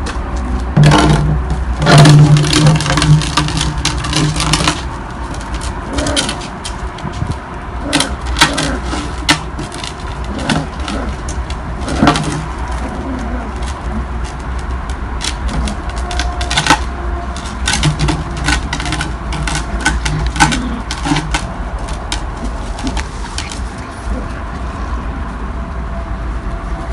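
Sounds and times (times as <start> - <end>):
claws clicking on paving: 0.0 - 24.7
steady low rumble: 0.0 - 26.9
plastic disc being pushed: 0.8 - 23.8.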